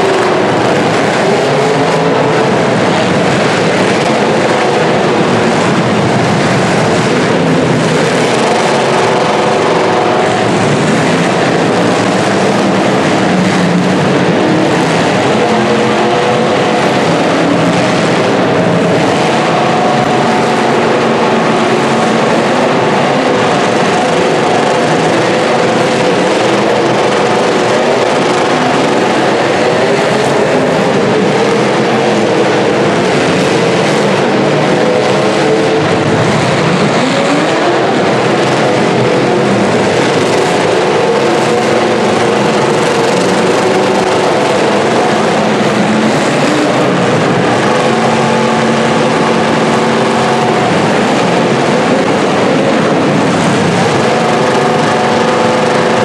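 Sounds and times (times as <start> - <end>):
car engine revving: 0.0 - 56.0
several car engines running: 0.0 - 56.0.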